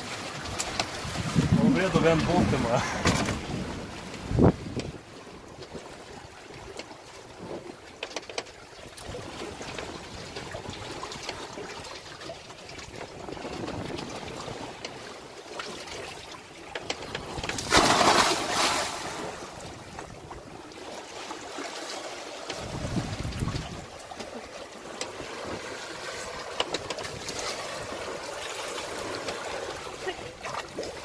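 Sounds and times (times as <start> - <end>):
rush of water: 0.0 - 31.0
water trickling along hull: 0.0 - 31.0.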